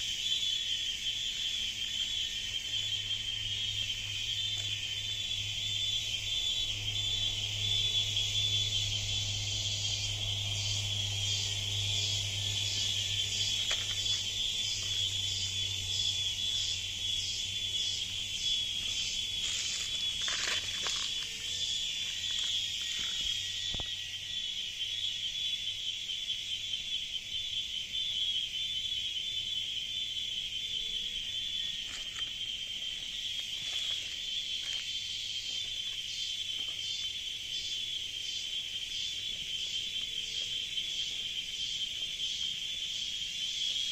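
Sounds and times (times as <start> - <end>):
cicadas droning: 0.0 - 43.9
pulsing insect call: 0.0 - 43.9.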